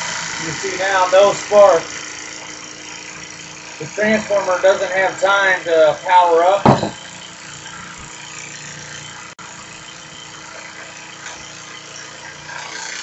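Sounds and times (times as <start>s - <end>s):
electric starter motor whirring: 0.0s - 13.0s.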